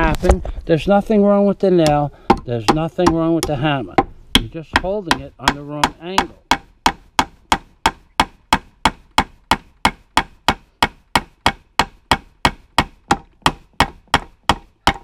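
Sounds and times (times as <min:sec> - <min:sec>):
hammer tapping nail into wood: 0:01.8 - 0:15.0.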